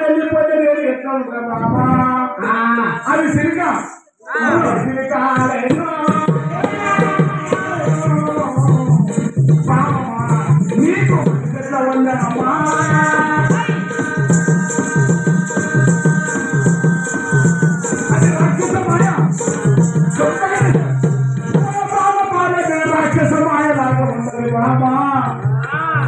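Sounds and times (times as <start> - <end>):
ankle bells jingling: 3.8 - 25.1
person singing folk music: 4.0 - 26.0
drum beats: 4.4 - 26.0.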